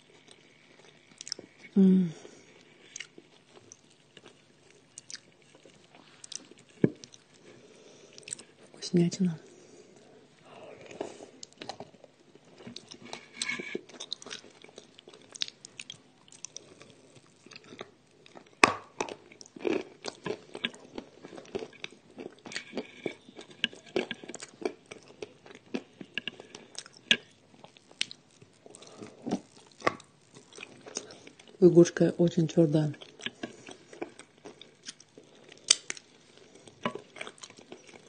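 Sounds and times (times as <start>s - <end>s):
crunchy chewing of clay: 2.4s - 8.8s, 10.7s - 31.6s, 32.9s - 38.0s.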